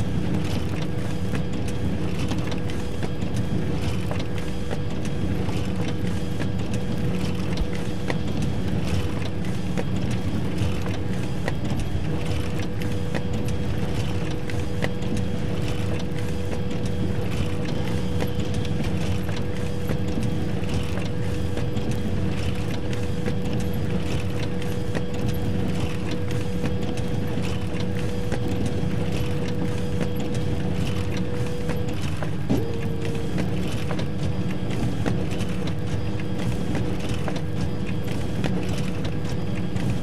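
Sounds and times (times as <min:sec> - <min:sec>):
photocopier motor hum: 0:00.0 - 0:40.0.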